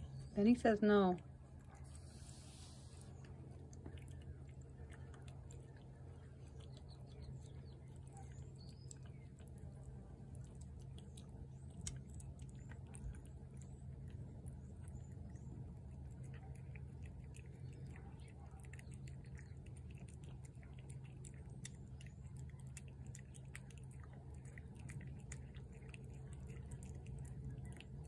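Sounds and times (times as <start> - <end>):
cat chewing wet food: 0.0 - 28.0
low hum: 0.0 - 28.0.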